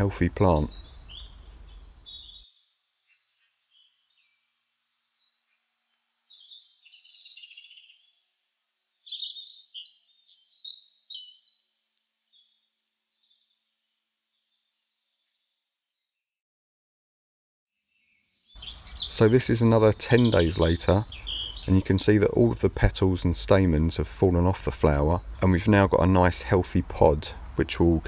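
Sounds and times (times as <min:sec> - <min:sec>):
birds chirping and warbling: 0:00.0 - 0:13.6, 0:17.9 - 0:28.0.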